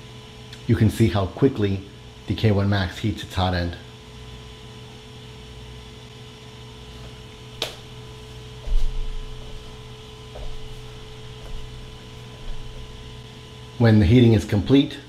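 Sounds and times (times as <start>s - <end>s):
electrical hum: 0.0s - 15.0s
faint steady whine: 0.0s - 15.0s.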